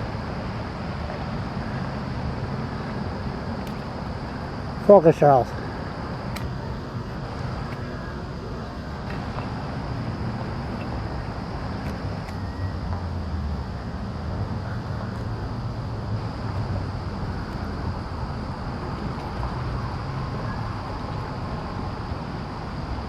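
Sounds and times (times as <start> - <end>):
faint high-pitched hum: 0.0 - 23.0
low outdoor background rumble: 0.0 - 23.0.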